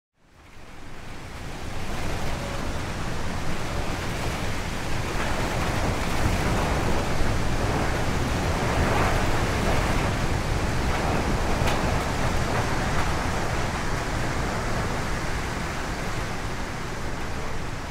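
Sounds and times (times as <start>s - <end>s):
rushing wind: 0.4s - 17.9s.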